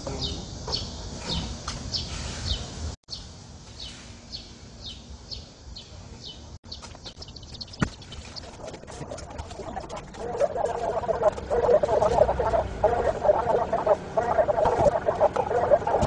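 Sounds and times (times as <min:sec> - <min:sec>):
bird chirping: 0:00.2 - 0:16.0.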